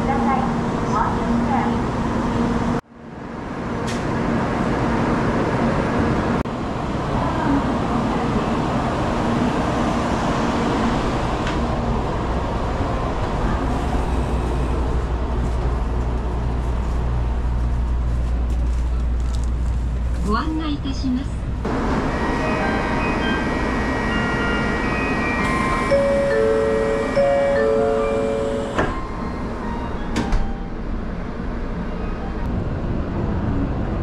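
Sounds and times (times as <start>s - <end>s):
busy station platform noise: 0.0s - 34.0s
low hum inside train car: 0.0s - 34.0s.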